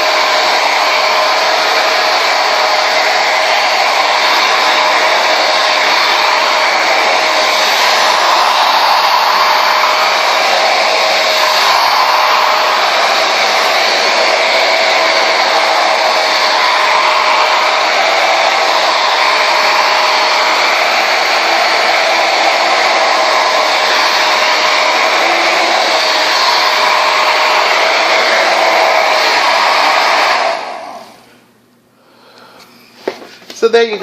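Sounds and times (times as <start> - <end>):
blow dryer running: 0.0 - 31.6.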